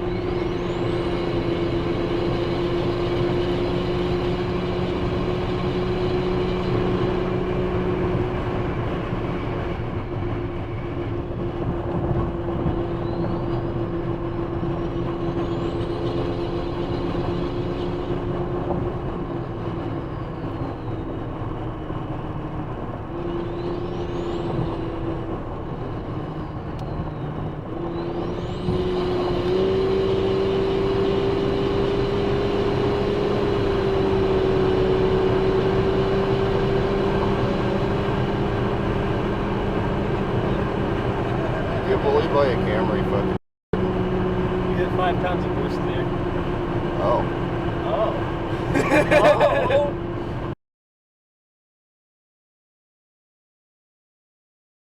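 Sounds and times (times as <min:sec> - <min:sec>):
car engine drone: 0:00.0 - 0:50.6.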